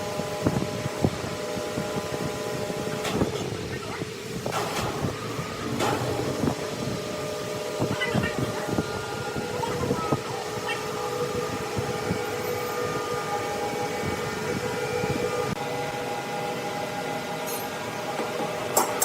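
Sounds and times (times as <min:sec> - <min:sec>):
sawmill machinery whine: 0:00.0 - 0:19.0.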